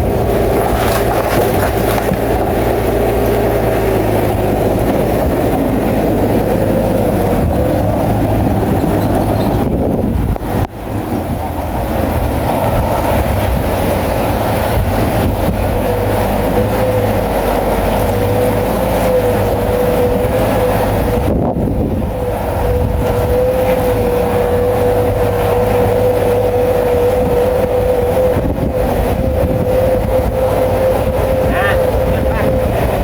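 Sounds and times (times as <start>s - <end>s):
bulldozer diesel engine rumbling: 0.0s - 33.0s.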